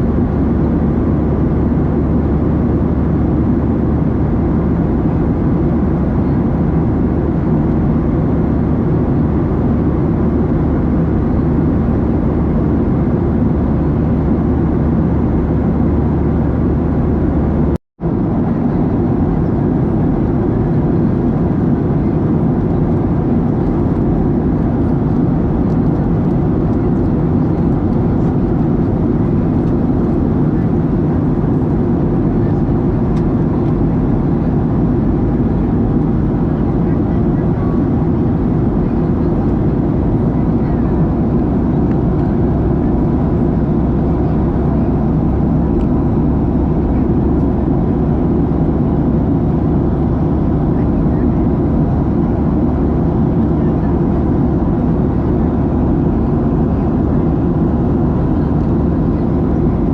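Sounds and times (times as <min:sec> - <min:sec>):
airflow rushing in cabin: 0:00.0 - 0:59.9
jet engines humming: 0:00.0 - 0:59.9.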